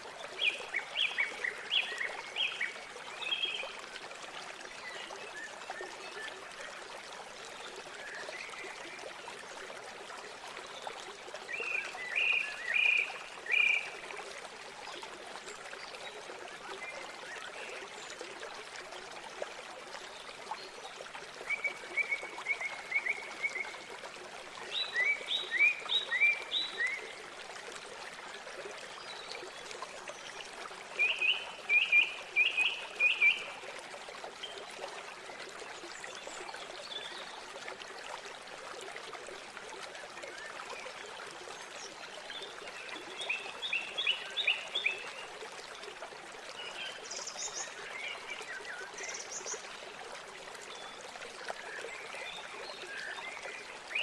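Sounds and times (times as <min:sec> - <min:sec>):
river water running: 0:00.0 - 0:54.0.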